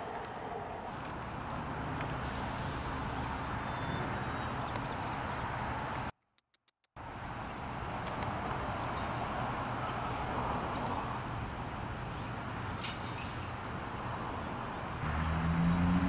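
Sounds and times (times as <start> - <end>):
steady low outdoor noise: 0.0 - 6.1, 7.0 - 16.0.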